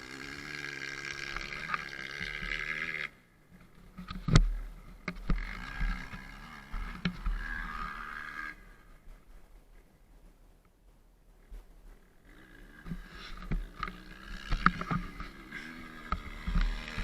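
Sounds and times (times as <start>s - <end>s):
dirt bike engine running: 0.0s - 9.2s, 11.5s - 17.0s.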